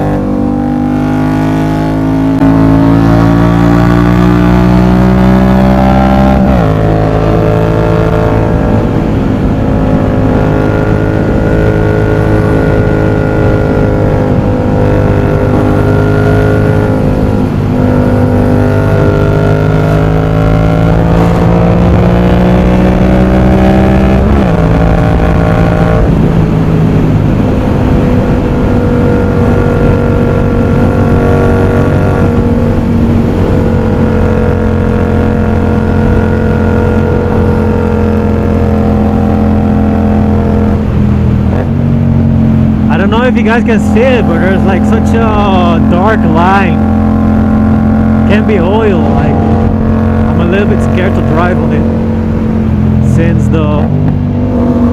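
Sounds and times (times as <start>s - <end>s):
motorcycle engine while riding: 0.0s - 54.9s.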